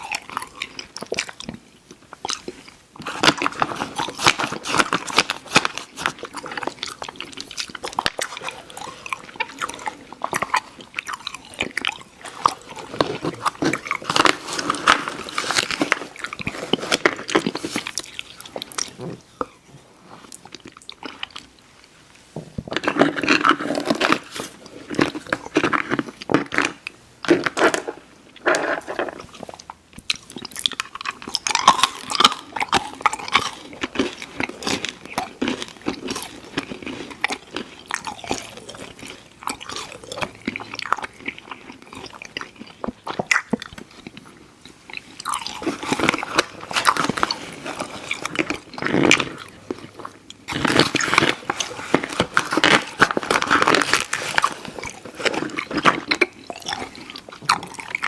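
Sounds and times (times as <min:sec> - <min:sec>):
mouth chewing candy: 0:00.0 - 0:22.0, 0:22.7 - 0:58.0.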